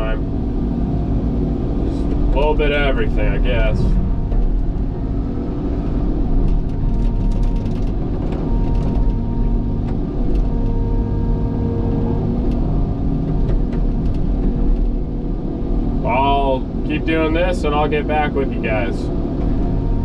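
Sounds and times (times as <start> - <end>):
excavator engine and hydraulics: 0.0 - 20.0
whine: 0.0 - 20.0.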